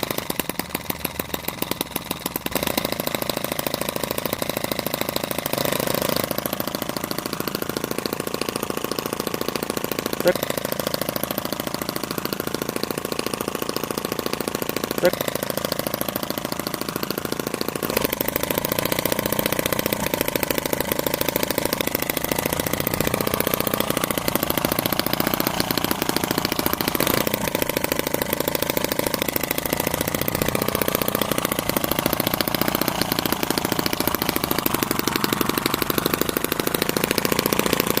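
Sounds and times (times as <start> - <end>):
model engine running: 0.0 - 38.0.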